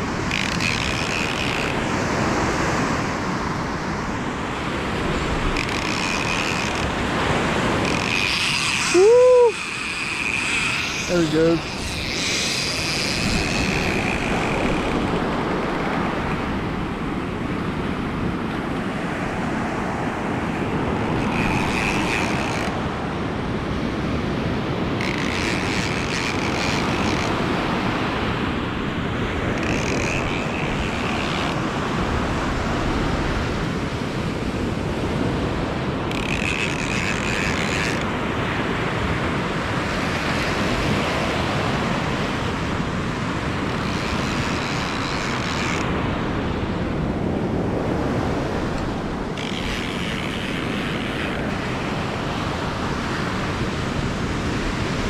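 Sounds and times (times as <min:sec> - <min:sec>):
fishing reel whirring: 0:00.0 - 0:15.9, 0:20.5 - 0:35.4, 0:36.0 - 0:46.2, 0:48.4 - 0:54.4
wind: 0:00.0 - 0:55.0.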